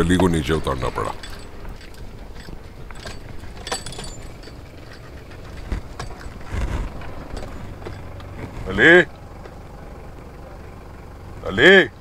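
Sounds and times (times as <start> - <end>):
car engine running low: 0.0 - 12.0.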